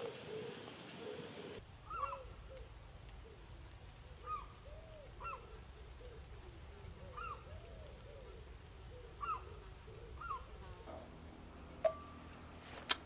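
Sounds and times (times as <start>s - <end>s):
birds calling: 0.0s - 12.6s.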